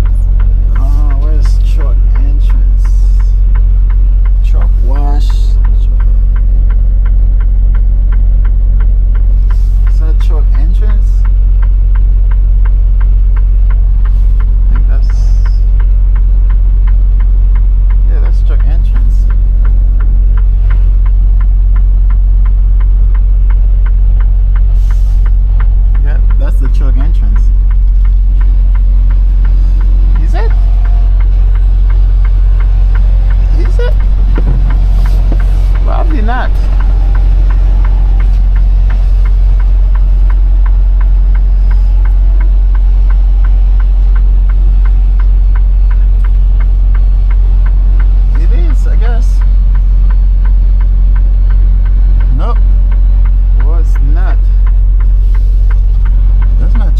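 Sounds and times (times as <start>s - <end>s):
diesel truck engine rumbling: 0.0s - 56.9s
turn signal ticking: 0.0s - 56.9s.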